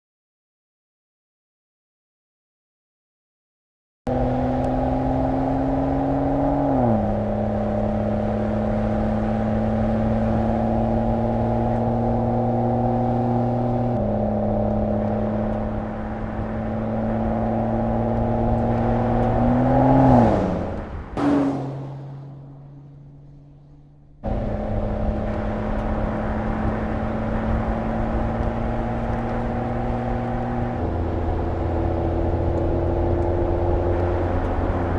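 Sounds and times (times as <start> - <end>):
car engine revving: 4.1 - 34.9.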